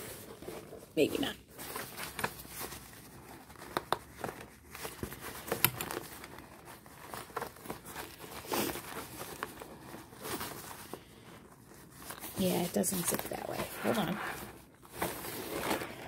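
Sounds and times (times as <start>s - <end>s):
fabric rustling and crinkling: 0.0s - 16.0s.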